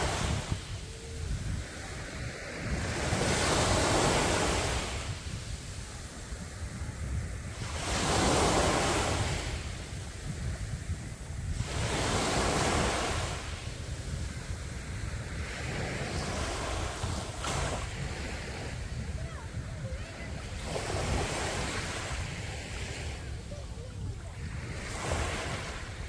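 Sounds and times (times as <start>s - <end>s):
sea waves breaking on beach: 0.0s - 26.0s
wind rumble on microphone: 0.0s - 26.0s.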